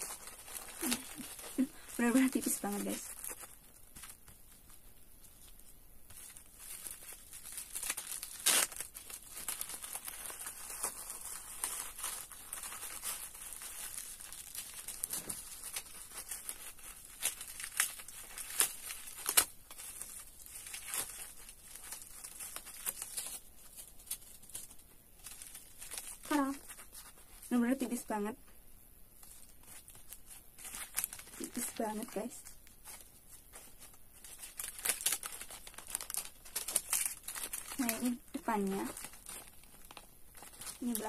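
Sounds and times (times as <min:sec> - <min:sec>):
plastic packaging crinkling: 0:00.0 - 0:28.4, 0:29.2 - 0:41.0.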